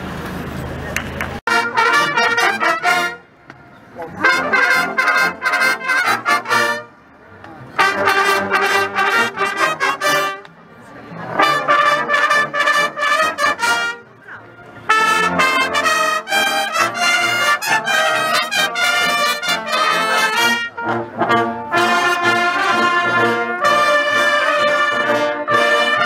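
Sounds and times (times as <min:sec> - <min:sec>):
military brass band march: 0:01.5 - 0:07.0, 0:07.6 - 0:10.5, 0:11.2 - 0:26.0.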